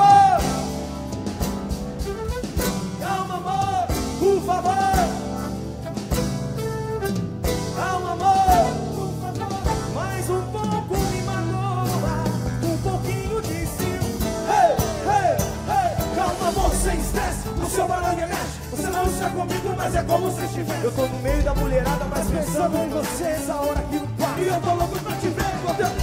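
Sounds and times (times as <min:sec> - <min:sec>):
man singing: 0:00.0 - 0:00.8, 0:03.0 - 0:05.5, 0:07.5 - 0:26.0
acoustic guitar: 0:00.0 - 0:26.0
cavaquinho: 0:00.0 - 0:26.0
drum kit: 0:00.0 - 0:26.0.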